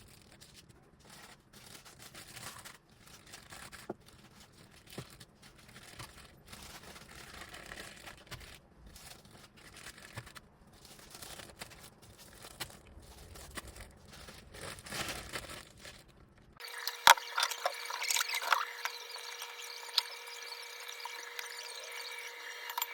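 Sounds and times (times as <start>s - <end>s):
plastic packaging crinkling: 0.0s - 22.9s.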